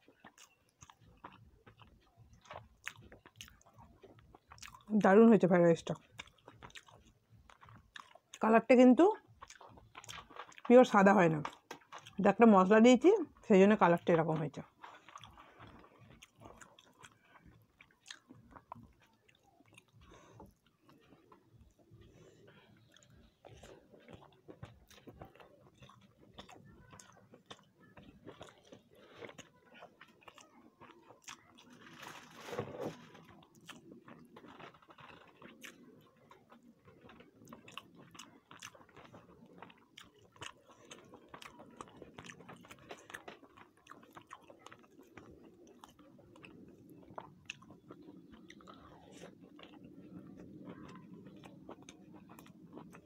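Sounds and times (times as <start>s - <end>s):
person chewing and biting food: 0.0s - 5.0s, 5.9s - 8.4s, 9.2s - 10.7s, 14.6s - 53.0s.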